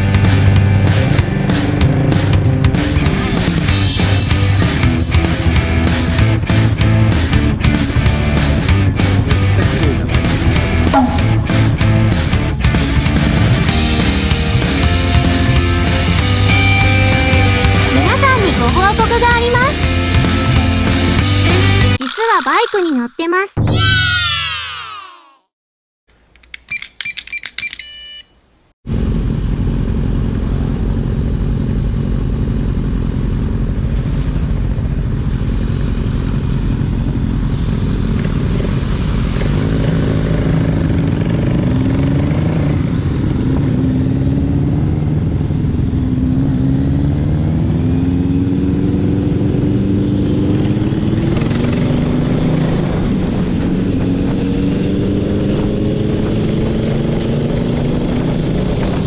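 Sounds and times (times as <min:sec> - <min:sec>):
motorcycle engine accelerating: 0:00.0 - 0:22.0, 0:28.9 - 0:59.0.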